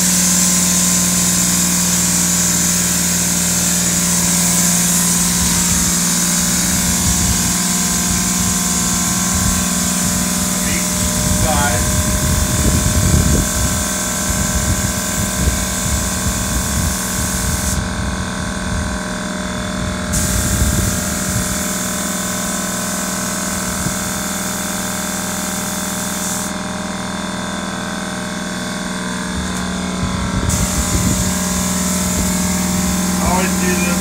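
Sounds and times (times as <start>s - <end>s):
paint spray gun hissing: 0.0s - 17.8s, 20.1s - 26.6s, 30.4s - 34.0s
steady machine hum: 0.0s - 34.0s.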